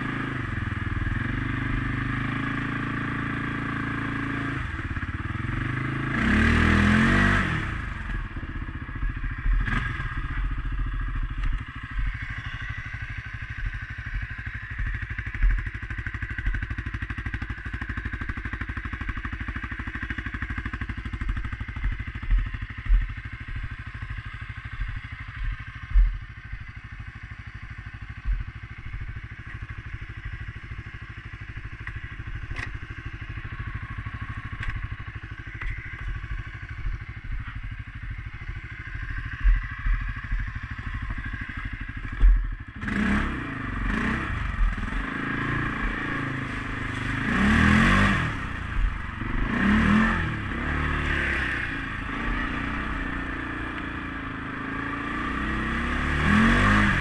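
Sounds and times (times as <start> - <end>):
atv engine running and revving: 0.0 - 57.0
thuds and clatter over rough trail: 0.0 - 57.0.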